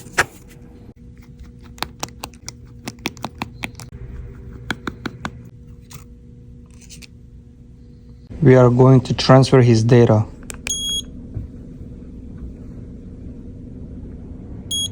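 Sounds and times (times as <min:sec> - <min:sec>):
faint electrical hum: 0:00.0 - 0:14.9.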